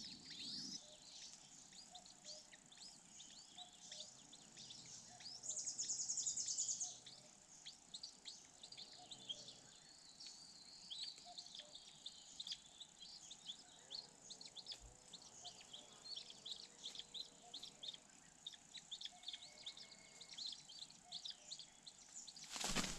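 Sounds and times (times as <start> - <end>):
bird trill: 0.0 - 22.9
small birds chirping: 0.0 - 22.9.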